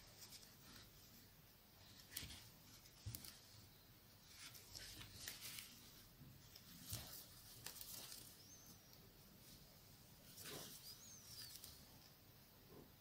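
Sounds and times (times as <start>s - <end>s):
crocheted piece rustling: 0.0s - 13.0s.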